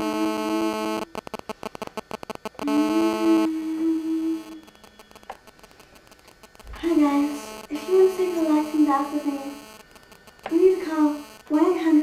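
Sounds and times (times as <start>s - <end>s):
crackles and clicks: 0.0s - 12.0s.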